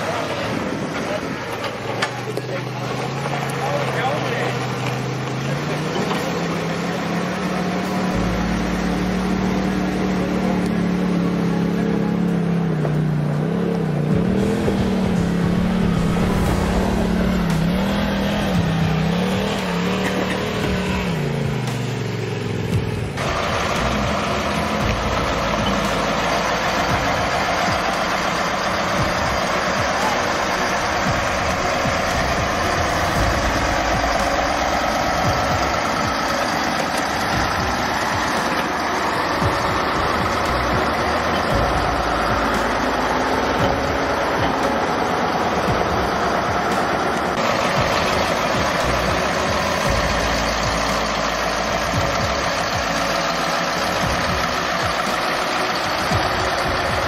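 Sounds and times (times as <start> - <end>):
truck diesel engine under load: 0.0 - 57.0.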